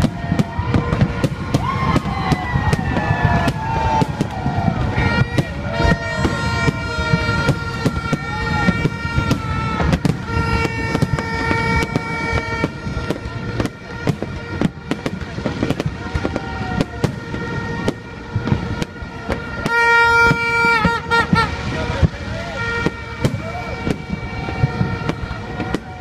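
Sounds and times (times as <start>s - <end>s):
firework bangs and crackles: 0.0s - 26.0s.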